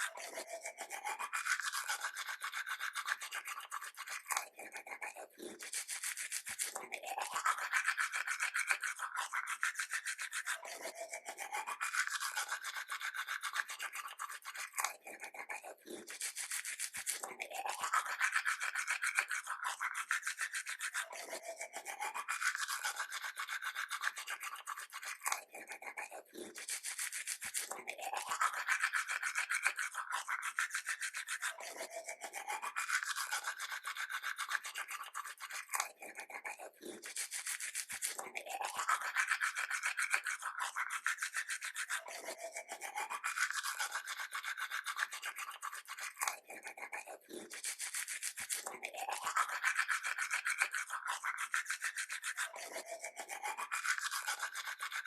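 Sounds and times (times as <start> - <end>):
toothbrush scrubbing teeth: 0.0 - 55.0.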